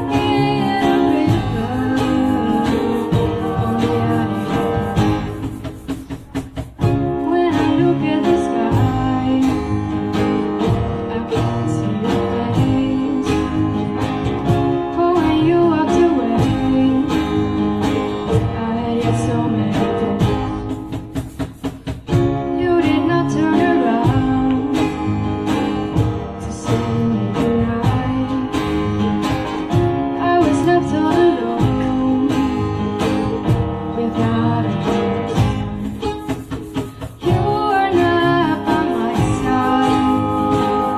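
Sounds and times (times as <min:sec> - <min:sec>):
person singing: 0:00.0 - 0:05.9, 0:07.0 - 0:20.7, 0:22.5 - 0:28.9, 0:30.2 - 0:40.9
band playing a song: 0:00.0 - 0:40.9
guitar: 0:00.0 - 0:40.9.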